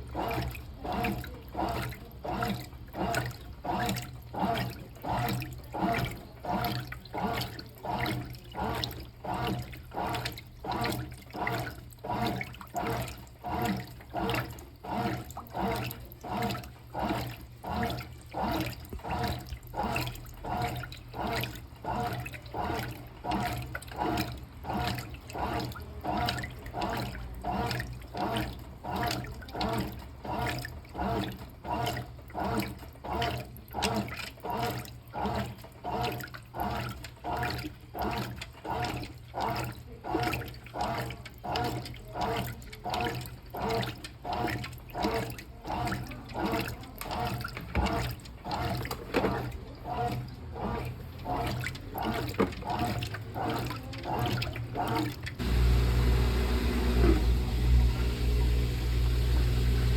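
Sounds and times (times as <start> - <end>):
washing machine water sloshing: 0.0 - 59.9.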